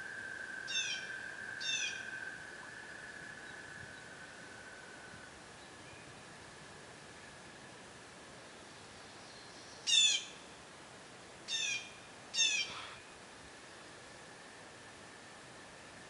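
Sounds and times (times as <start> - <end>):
small stream hissing: 0.0 - 16.0.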